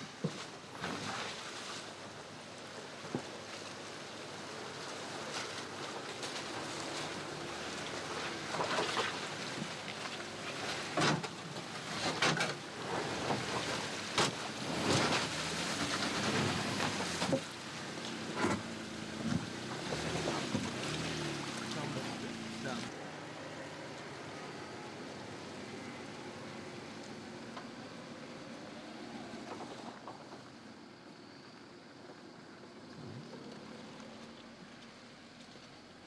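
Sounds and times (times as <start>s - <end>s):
car engine at low revs: 0.0s - 36.0s
water and mud splashing: 0.0s - 36.0s.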